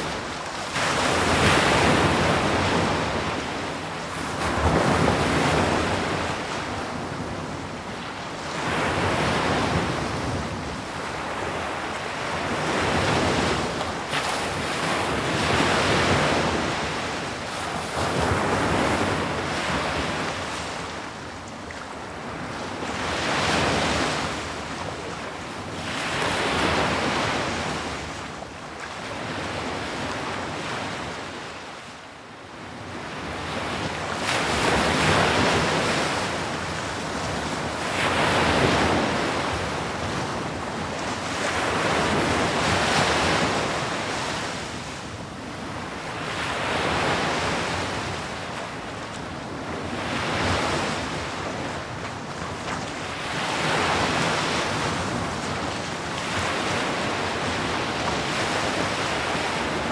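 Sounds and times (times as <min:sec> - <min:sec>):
ocean waves breaking on shore: 0:00.0 - 0:31.9, 0:32.9 - 0:59.9.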